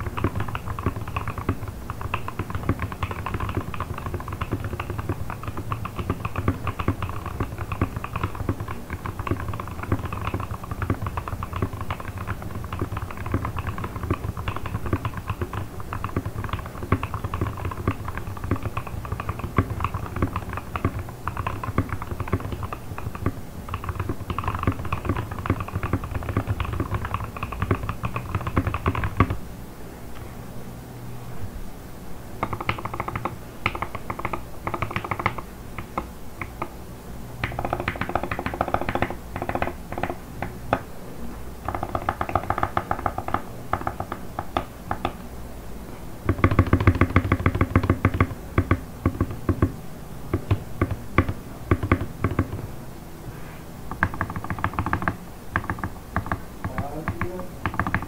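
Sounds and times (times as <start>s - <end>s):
fast typing on mechanical keyboard: 0.0s - 29.4s, 32.4s - 36.7s, 37.4s - 40.8s, 41.6s - 45.2s, 46.3s - 49.7s, 50.3s - 52.7s, 53.9s - 58.0s.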